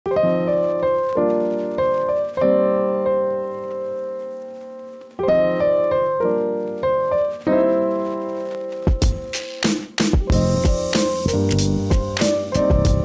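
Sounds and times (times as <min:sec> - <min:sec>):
piano chords: 0:00.1 - 0:13.0.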